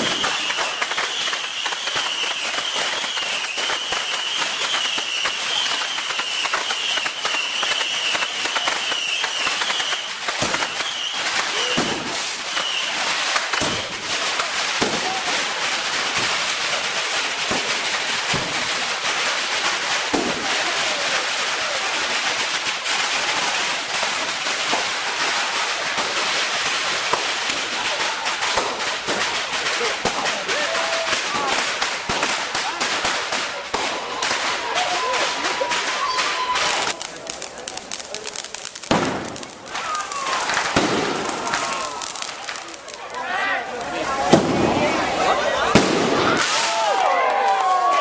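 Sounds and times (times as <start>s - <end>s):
fireworks bangs: 0.0s - 48.0s
fireworks crackling: 0.0s - 48.0s.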